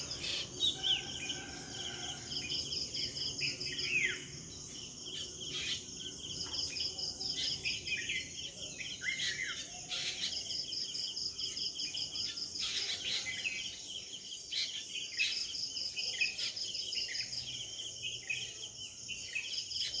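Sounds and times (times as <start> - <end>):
insect trill: 0.0 - 20.0.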